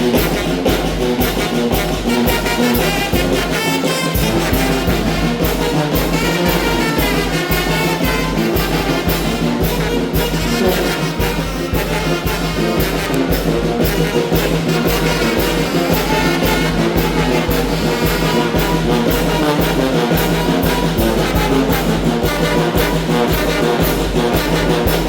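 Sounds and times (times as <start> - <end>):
brass band melody: 0.0 - 25.0.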